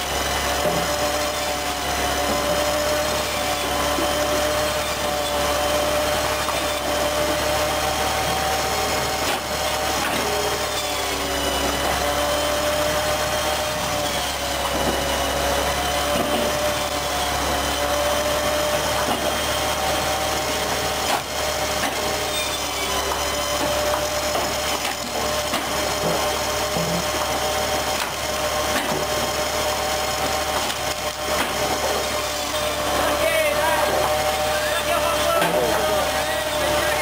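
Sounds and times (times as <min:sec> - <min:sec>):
band saw whining: 0:00.0 - 0:37.0
blade sawing through wood: 0:00.0 - 0:37.0.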